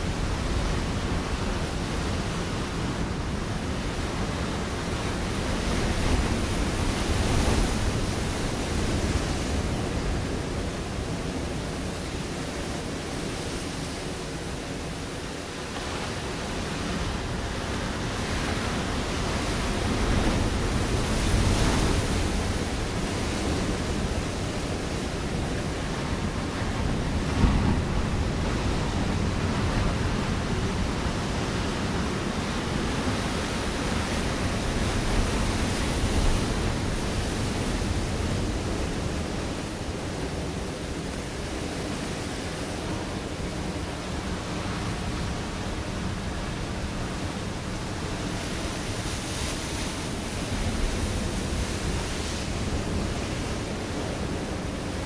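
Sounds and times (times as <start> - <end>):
waves breaking on rocky shore: 0.0 - 55.0.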